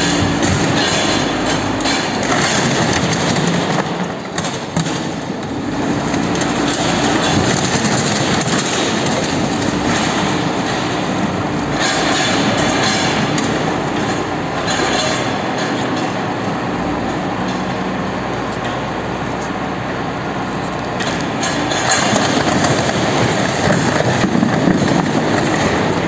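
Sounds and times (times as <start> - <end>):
heavy machinery rumbling: 0.0 - 26.0.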